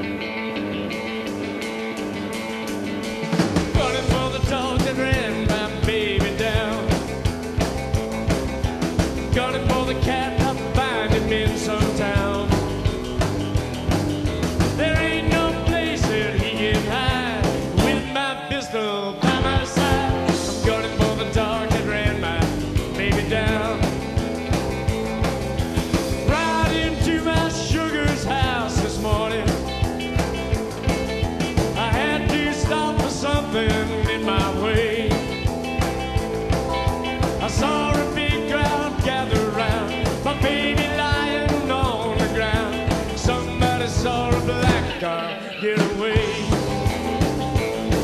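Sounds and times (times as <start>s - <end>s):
bass guitar: 0.0s - 48.0s
strummed guitar chords: 0.0s - 48.0s
drum kit beat: 1.3s - 18.2s, 19.2s - 45.1s, 45.8s - 48.0s.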